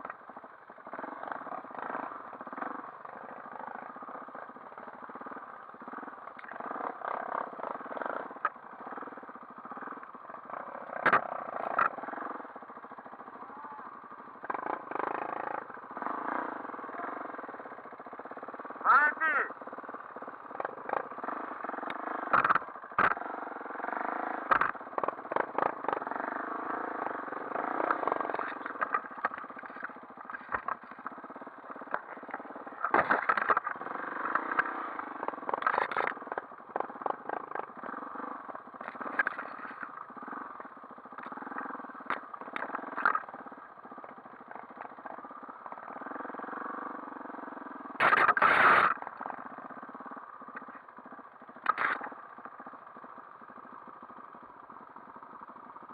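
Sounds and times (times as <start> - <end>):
dirt bike engine revving: 0.9 - 19.9, 20.5 - 52.2.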